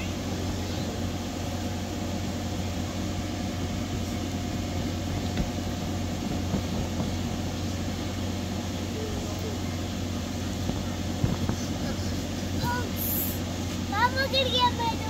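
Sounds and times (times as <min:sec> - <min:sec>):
inflation blower droning hum: 0:00.0 - 0:15.0.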